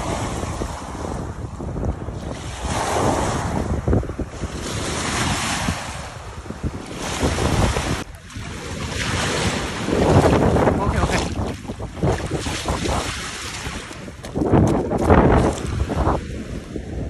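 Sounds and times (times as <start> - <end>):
waves washing onto shore: 0.0 - 17.0
wind buffeting microphone: 0.0 - 17.0.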